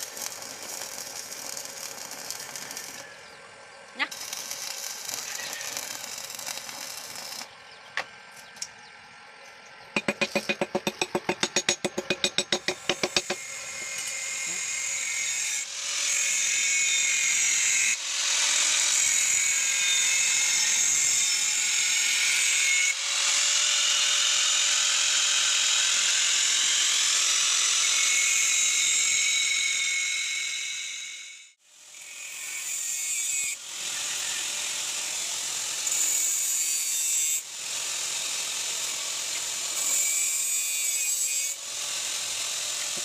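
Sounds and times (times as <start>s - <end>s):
angle grinder grinding steel: 0.0s - 3.4s, 4.0s - 7.6s, 12.8s - 43.0s.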